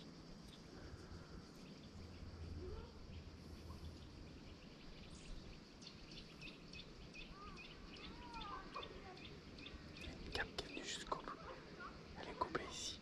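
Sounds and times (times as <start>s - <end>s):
low outdoor background: 0.0s - 13.0s
small birds chirping: 0.0s - 13.0s.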